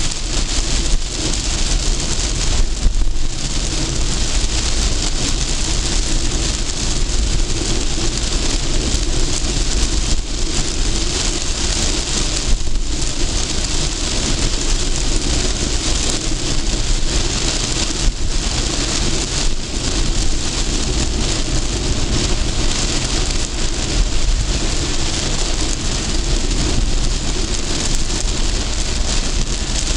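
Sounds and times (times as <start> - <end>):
heavy rain hitting a car: 0.0 - 29.9
road and engine rumble: 0.0 - 29.9.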